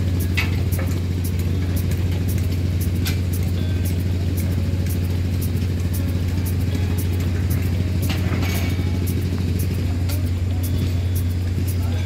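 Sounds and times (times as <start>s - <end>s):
machinery engine droning: 0.0s - 12.0s.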